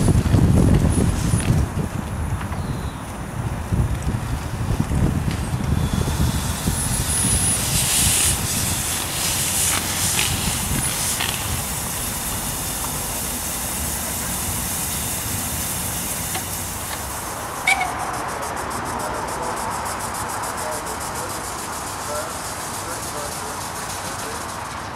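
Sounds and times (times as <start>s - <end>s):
steam hissing: 0.0s - 24.9s.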